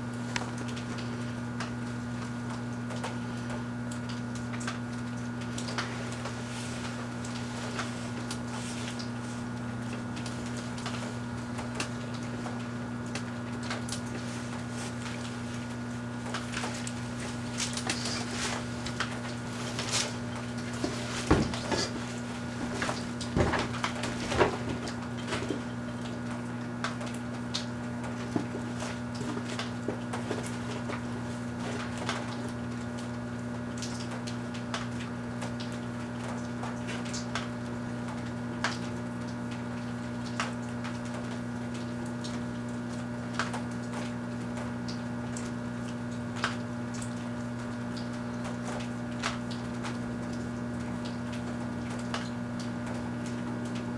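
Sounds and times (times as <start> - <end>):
microwave oven humming: 0.0 - 53.9.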